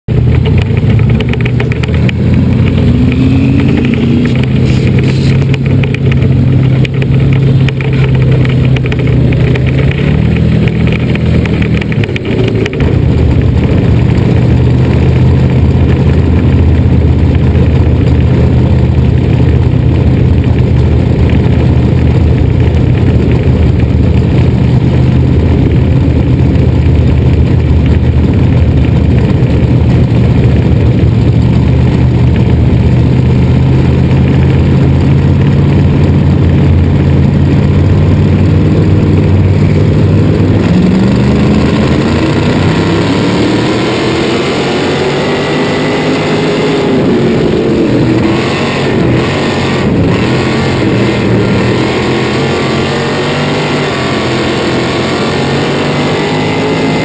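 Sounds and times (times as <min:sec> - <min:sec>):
race car engine running: 0:00.0 - 0:57.0.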